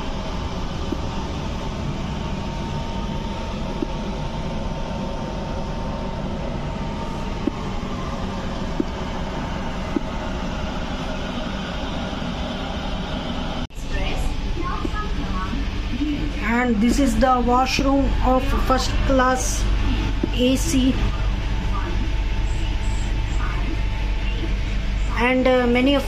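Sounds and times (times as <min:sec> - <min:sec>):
faint steady whine: 0:00.0 - 0:26.0
train coach rumble and hum: 0:00.0 - 0:26.0.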